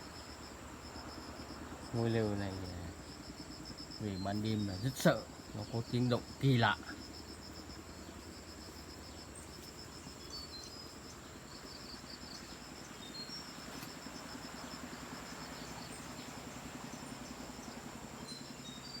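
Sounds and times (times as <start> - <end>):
constant high whine: 0.0 - 19.0
crickets trilling: 0.0 - 19.0.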